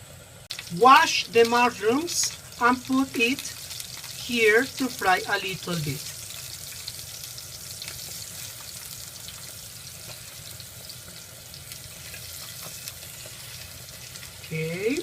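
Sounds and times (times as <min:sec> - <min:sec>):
mushrooms sizzling in a pan: 0:00.0 - 0:15.0.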